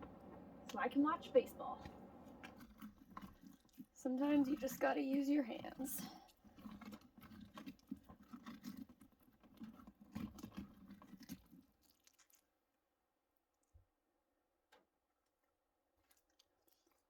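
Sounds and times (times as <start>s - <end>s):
wet squelching of pumpkin pulp: 0.0s - 13.7s, 15.2s - 17.0s.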